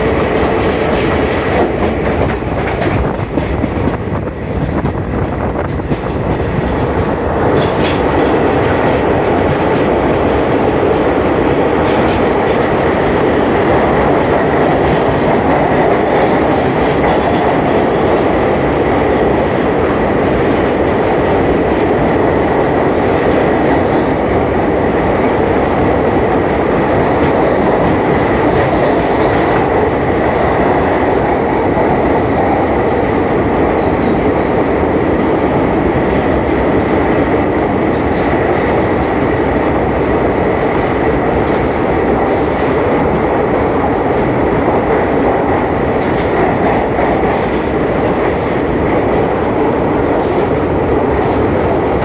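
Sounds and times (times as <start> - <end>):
train wheels rumbling and rattling: 0.0 - 52.0.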